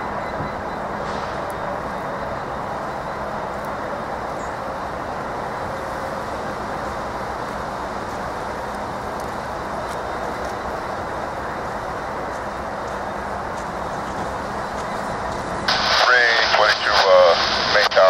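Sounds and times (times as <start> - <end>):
freight train rumbling past: 0.0 - 16.6.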